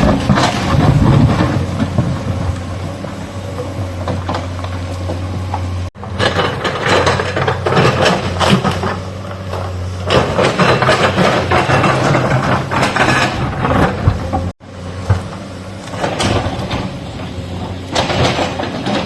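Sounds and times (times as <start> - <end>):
excavator diesel engine running: 0.0 - 19.0
rock and soil clatter: 0.0 - 19.0.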